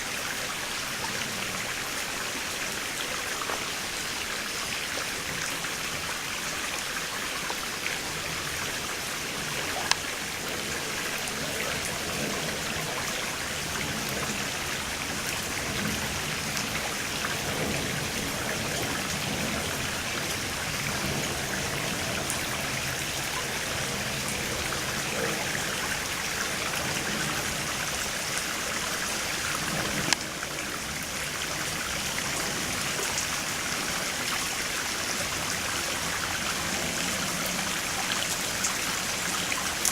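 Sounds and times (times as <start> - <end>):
stream water running over stones: 0.0 - 39.9.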